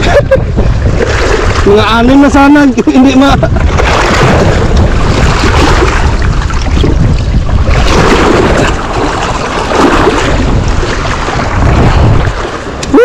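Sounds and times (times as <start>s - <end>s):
water rushing over rocks: 0.0s - 13.0s
wind rumble on microphone: 0.0s - 13.0s.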